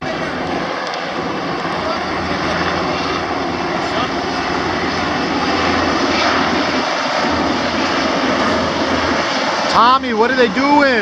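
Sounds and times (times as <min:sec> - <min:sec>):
helicopters flying overhead: 0:00.0 - 0:11.0.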